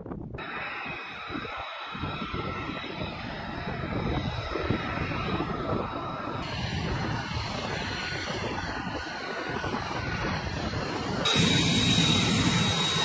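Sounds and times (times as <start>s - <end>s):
jet engine whine and rumble: 0.0s - 13.0s.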